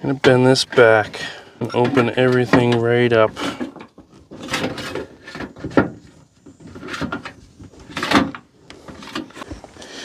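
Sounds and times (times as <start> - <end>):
thin metal sheet flexing and rattling: 0.0 - 9.5.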